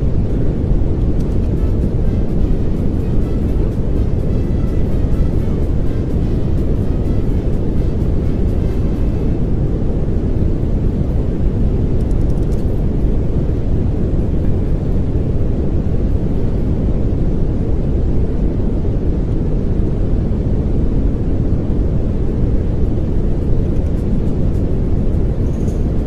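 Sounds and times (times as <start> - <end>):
pink noise hiss: 0.0 - 26.0.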